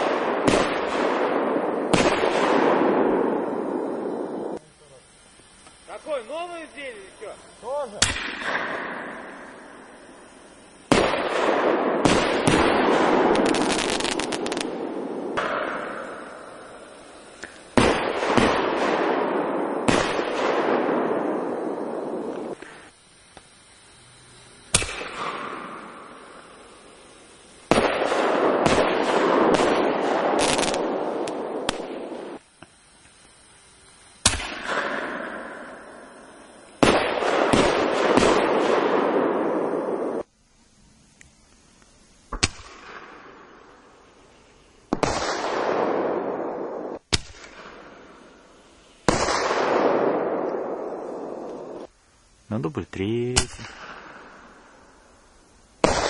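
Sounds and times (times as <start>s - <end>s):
hissing crackle of fireworks: 0.0s - 56.0s.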